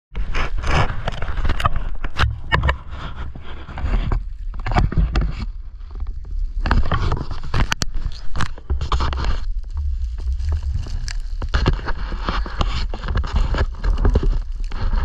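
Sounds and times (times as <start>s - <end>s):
low microphone rumble: 0.2s - 15.0s.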